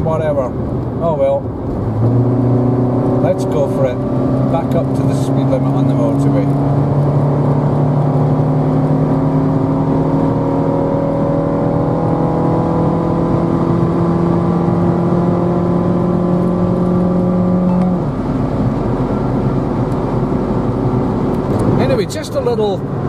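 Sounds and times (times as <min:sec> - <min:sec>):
car engine accelerating: 0:00.0 - 0:23.0
tyre and road noise: 0:00.0 - 0:23.0.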